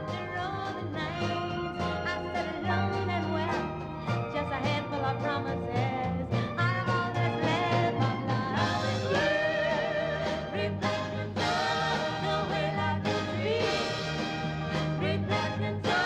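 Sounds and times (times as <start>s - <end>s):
live swing band music: 0.0s - 16.0s.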